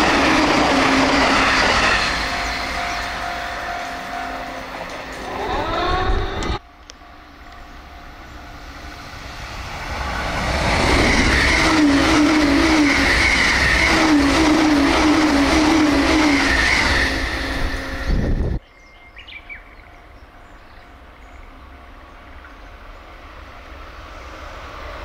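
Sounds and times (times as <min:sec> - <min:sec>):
electric train passing: 0:00.0 - 0:25.0
train warbling whine: 0:00.0 - 0:25.0.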